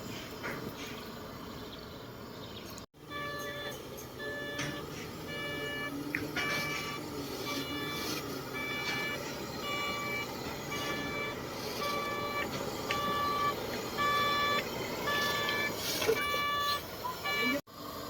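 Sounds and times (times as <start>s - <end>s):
low running engine: 0.0s - 18.0s
reversing alarm beeping: 3.0s - 17.6s.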